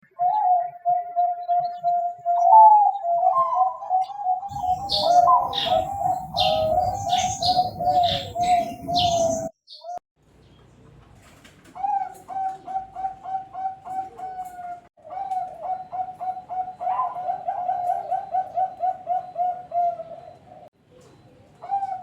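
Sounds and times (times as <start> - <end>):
dove cooing: 0.2 - 9.5, 11.8 - 20.7, 21.6 - 22.0.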